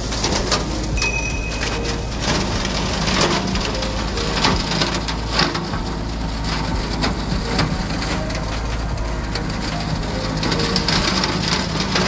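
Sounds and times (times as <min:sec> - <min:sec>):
brush crackling and snapping: 0:00.0 - 0:12.0
tractor diesel engine running: 0:00.0 - 0:12.0.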